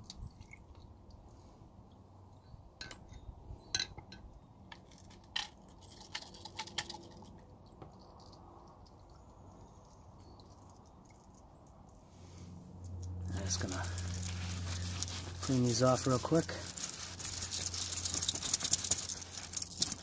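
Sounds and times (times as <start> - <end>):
small metal parts clinking: 2.8 - 11.9, 13.0 - 20.0.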